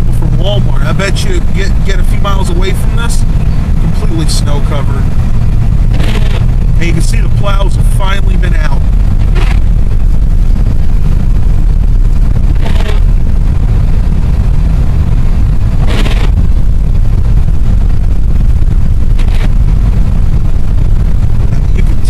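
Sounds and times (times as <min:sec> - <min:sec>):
car driving on snow: 0:00.0 - 0:22.0.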